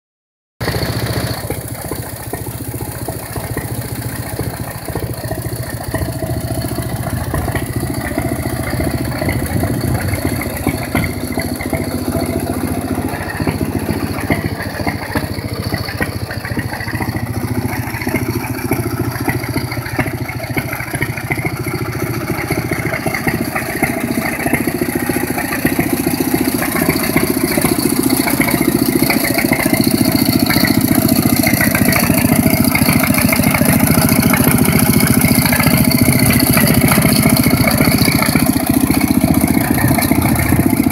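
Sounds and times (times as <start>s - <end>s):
tractor engine idling: 0.6s - 40.9s.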